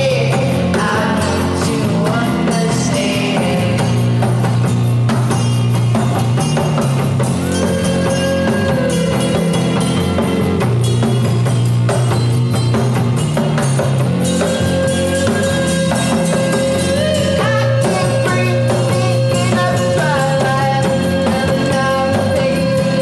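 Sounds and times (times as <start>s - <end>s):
bass: 0.0s - 23.0s
drum kit beat: 0.0s - 23.0s.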